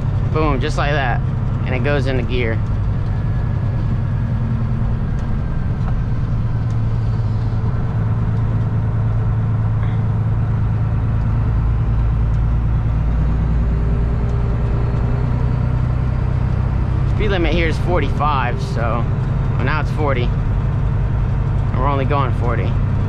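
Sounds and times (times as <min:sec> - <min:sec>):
diesel truck engine drone: 0:00.0 - 0:23.0
road noise: 0:00.0 - 0:23.0.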